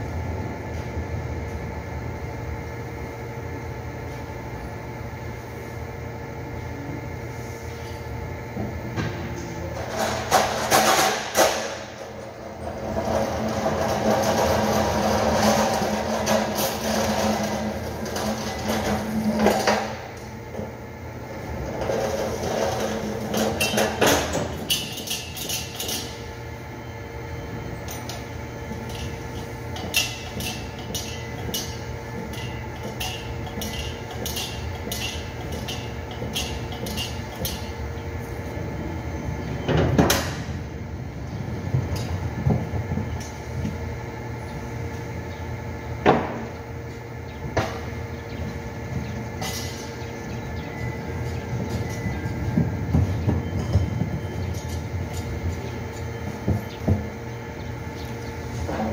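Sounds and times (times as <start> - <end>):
factory machinery hum: 0.0 - 58.9.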